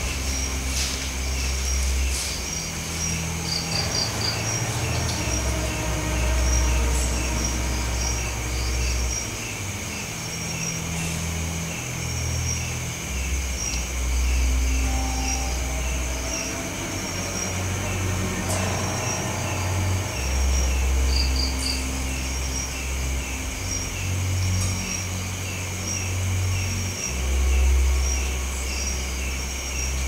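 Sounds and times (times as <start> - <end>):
low droning rumble: 0.0 - 29.9
crickets chirping: 0.0 - 30.0.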